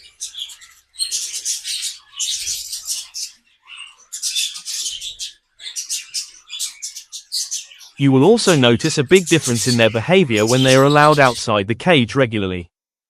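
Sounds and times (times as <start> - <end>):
budgies chattering: 0.0 - 12.0.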